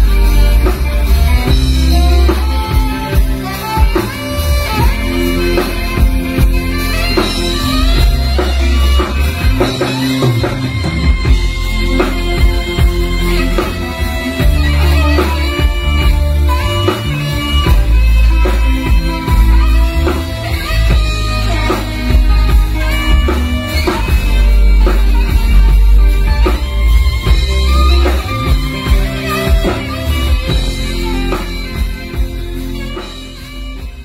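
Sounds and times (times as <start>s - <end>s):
drums: 0.0s - 34.0s
electric bass: 0.0s - 34.0s
saxophone melody: 0.0s - 34.0s.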